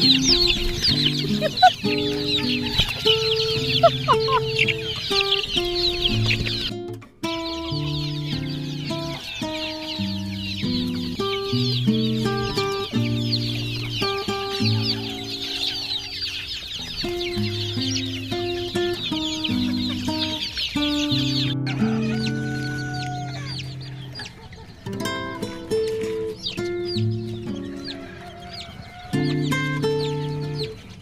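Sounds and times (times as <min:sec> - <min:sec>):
background music of held notes: 0:00.0 - 0:31.0
chicks peeping: 0:00.0 - 0:31.0.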